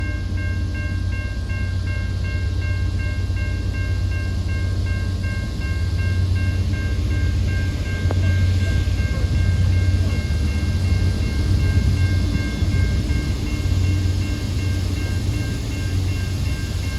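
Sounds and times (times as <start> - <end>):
freight train diesel rumble: 0.0 - 16.9
pulsing high ringing tone: 0.0 - 16.9.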